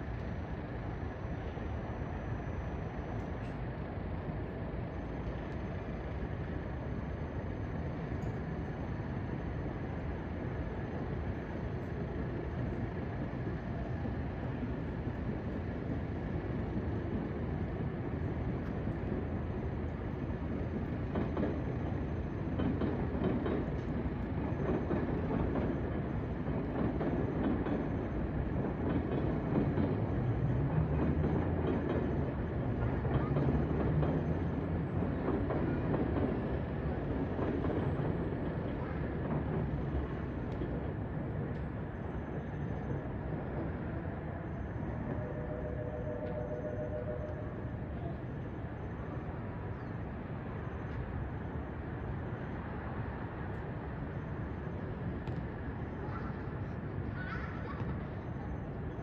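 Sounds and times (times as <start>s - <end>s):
electric train rumbling on tracks: 0.0s - 59.0s.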